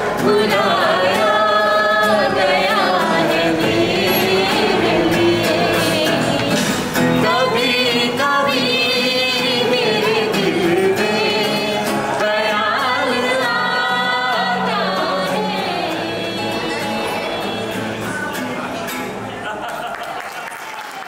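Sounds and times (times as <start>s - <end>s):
group singing: 0.0s - 18.6s
strummed acoustic guitar: 0.0s - 19.5s.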